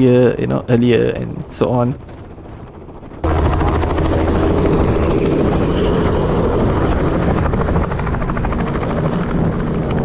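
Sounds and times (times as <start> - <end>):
helicopter rotor chopping: 0.0 - 10.0.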